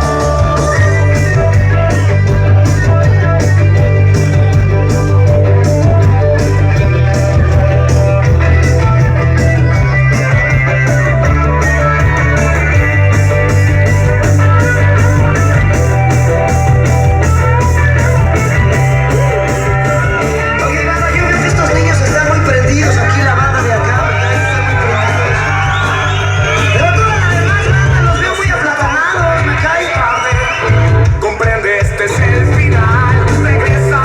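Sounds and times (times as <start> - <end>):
loud music with guitar: 0.0 - 34.0.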